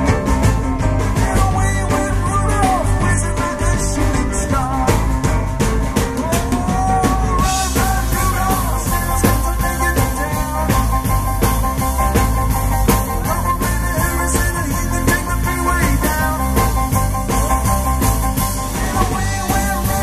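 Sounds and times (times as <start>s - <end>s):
bass guitar: 0.0s - 20.0s
drum kit: 0.0s - 20.0s
electric guitars: 0.0s - 20.0s.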